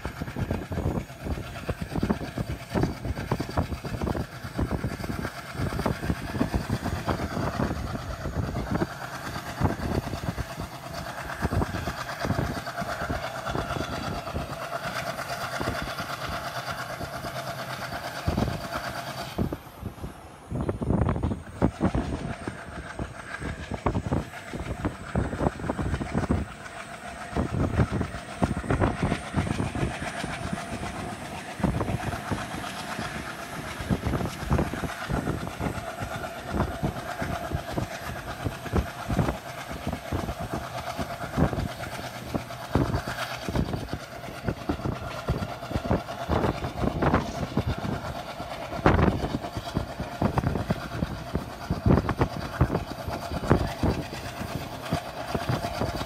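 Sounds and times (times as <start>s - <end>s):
train rumble: 0.0s - 56.0s
train wheels clattering: 0.0s - 56.0s.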